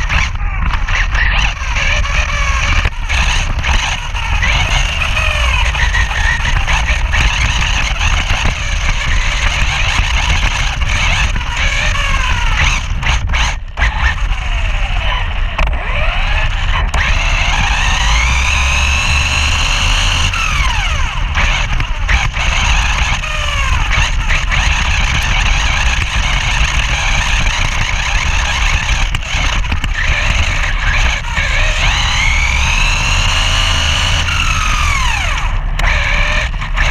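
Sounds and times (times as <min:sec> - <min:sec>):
electric motor whining: 0:00.0 - 0:36.9
rumble of wind and ground: 0:00.0 - 0:36.9.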